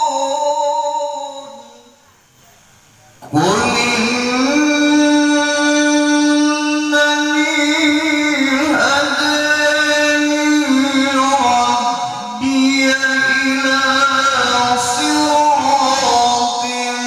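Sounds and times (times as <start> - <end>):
person reciting melodically: 0.0 - 2.0, 3.2 - 17.0.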